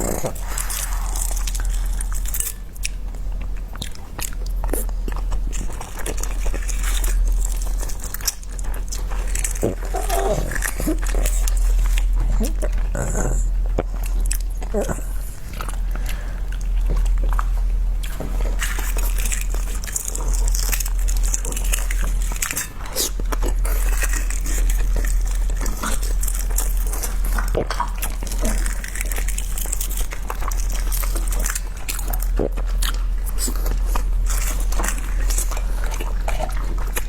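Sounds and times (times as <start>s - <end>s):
person chewing food: 0.0s - 37.0s
steady low hum: 0.0s - 37.0s.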